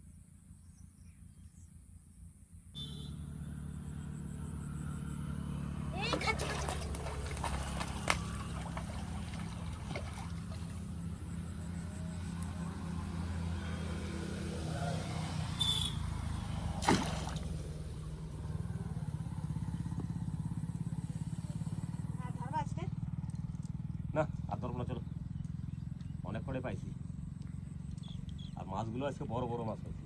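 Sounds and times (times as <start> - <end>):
motor engine humming: 4.0 - 30.0.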